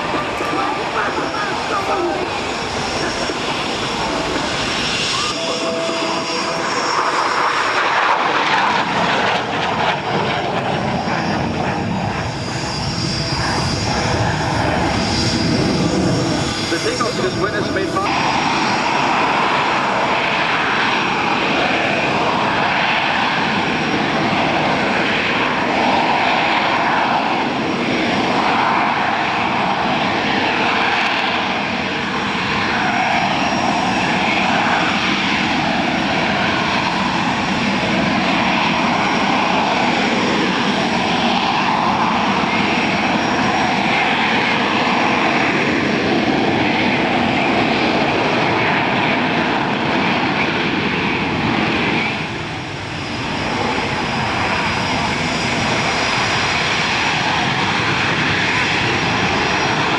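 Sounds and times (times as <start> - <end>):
jet engine running: 0.0 - 59.9.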